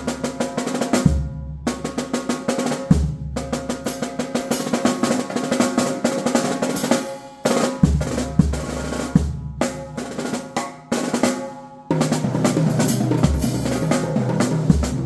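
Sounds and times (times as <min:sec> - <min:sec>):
drum kit playing: 0:00.0 - 0:15.0.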